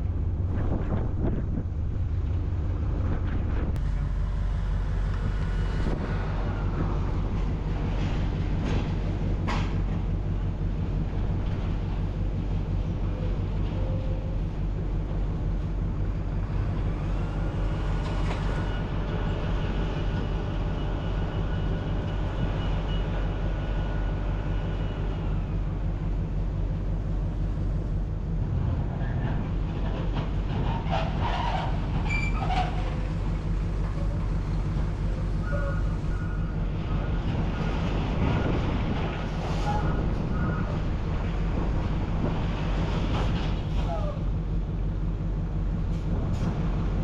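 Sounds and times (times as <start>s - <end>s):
large engine droning: 0.0s - 47.0s.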